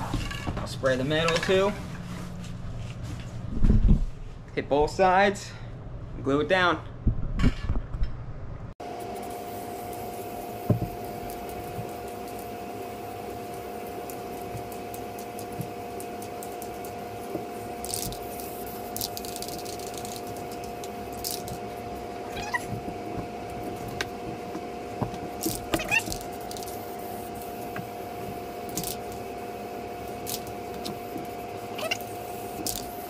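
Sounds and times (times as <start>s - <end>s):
fan motor drone: 0.0s - 33.0s.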